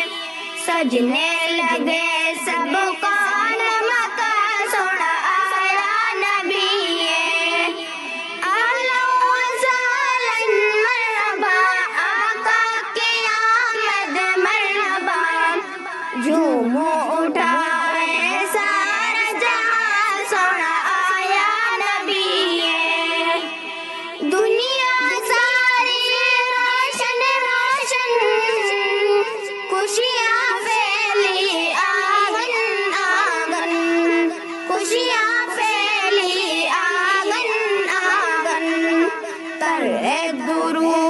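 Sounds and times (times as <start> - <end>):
girl singing devotional song: 0.0 - 41.0.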